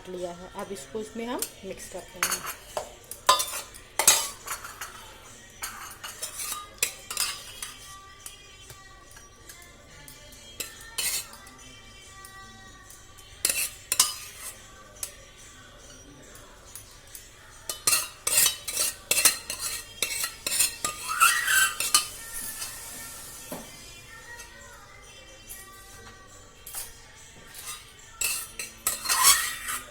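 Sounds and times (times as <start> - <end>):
spoon scraping against a pot: 0.6 - 8.4, 9.1 - 11.6, 12.9 - 15.2, 15.8 - 24.9, 26.7 - 29.9.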